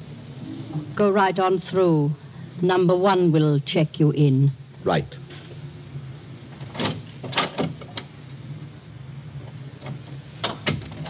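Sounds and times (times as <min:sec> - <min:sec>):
low recording hum: 0:00.0 - 0:11.0.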